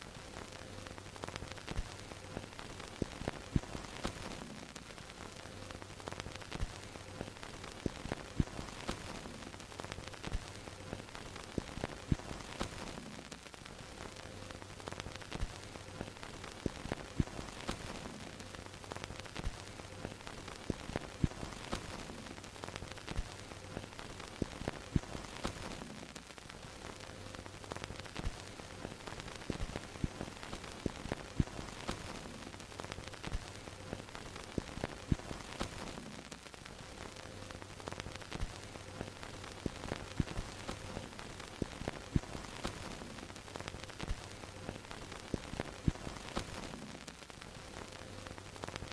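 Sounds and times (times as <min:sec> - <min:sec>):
crackles and pops: 0:00.0 - 0:48.9
film projector hiss: 0:00.0 - 0:48.9.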